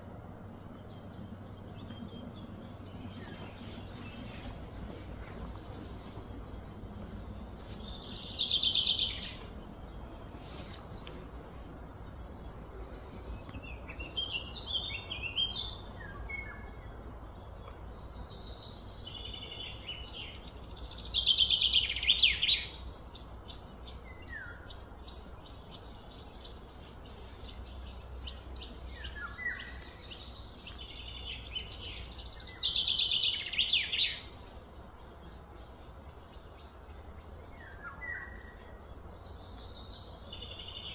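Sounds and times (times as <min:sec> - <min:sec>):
bird song with falling notes: 0:00.0 - 0:40.9
faint bird chirps and calls: 0:00.0 - 0:40.9.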